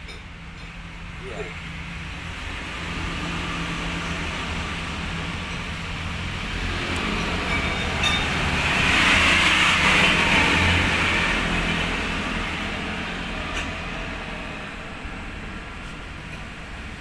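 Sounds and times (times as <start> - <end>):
broad rushing noise: 0.8 - 17.0.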